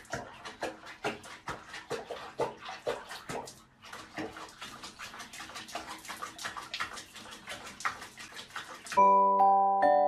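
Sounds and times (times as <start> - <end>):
water splashing in a plastic basin: 0.0 - 9.0.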